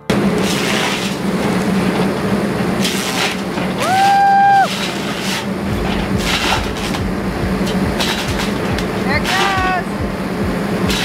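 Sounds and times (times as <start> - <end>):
excavator engine drone: 0.0 - 11.0
mulcher disc rushing noise: 0.0 - 11.0
rising whine: 0.0 - 11.0.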